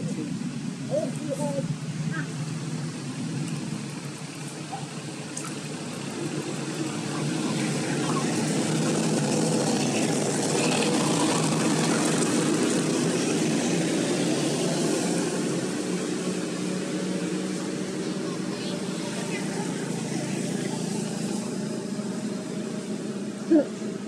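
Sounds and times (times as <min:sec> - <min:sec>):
steady engine noise: 0:00.0 - 0:24.0.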